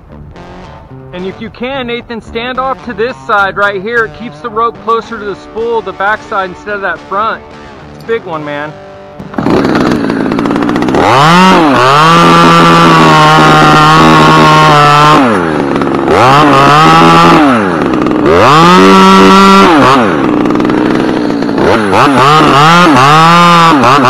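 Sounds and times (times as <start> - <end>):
chainsaw cutting wood: 2.3 - 24.0.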